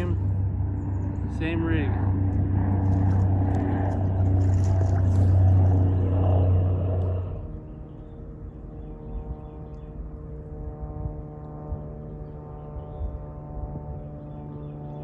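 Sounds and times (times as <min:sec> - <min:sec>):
motor running with low drone: 0:00.0 - 0:15.0.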